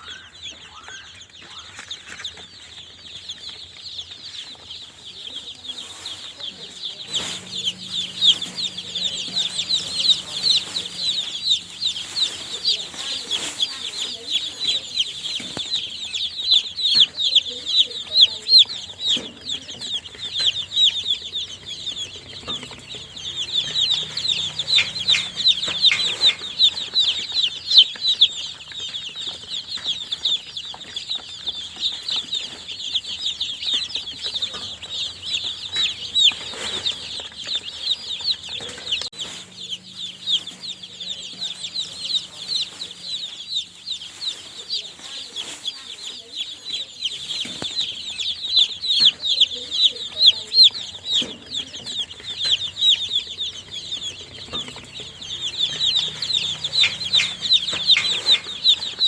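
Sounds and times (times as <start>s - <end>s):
baby chicks peeping: 0.0s - 59.0s.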